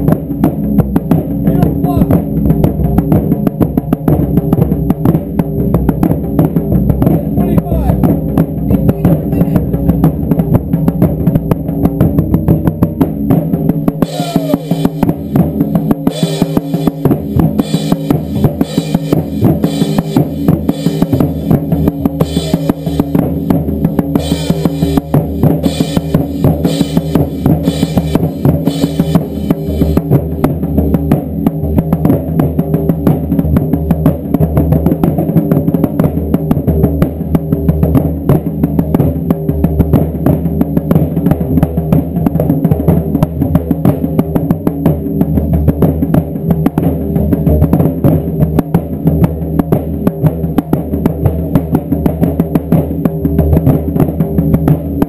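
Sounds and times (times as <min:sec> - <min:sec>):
crisp drum strokes: 0:00.0 - 0:55.0
taiko drums pounding: 0:00.0 - 0:55.0.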